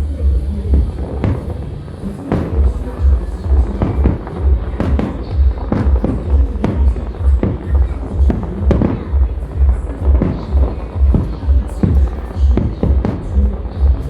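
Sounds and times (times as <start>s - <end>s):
fireworks bursting: 0.0s - 14.0s
music with heavy bass beat: 0.0s - 14.0s.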